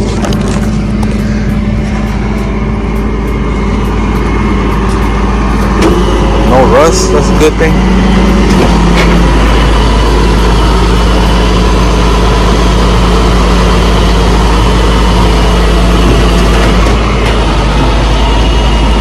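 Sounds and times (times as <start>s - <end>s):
steady hum: 0.0s - 19.0s
vehicle engine idling: 0.0s - 19.0s.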